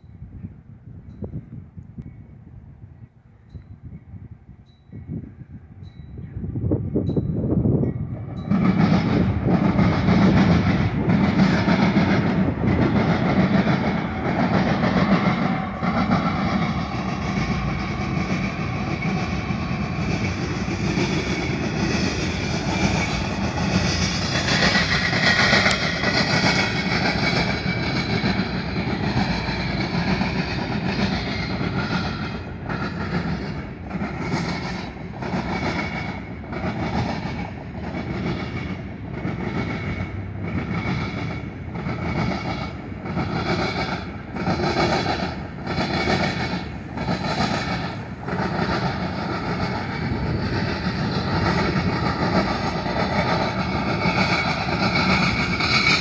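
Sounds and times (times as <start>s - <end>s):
diesel locomotive humming: 0.0s - 56.0s
train wheels clacking: 7.0s - 56.0s.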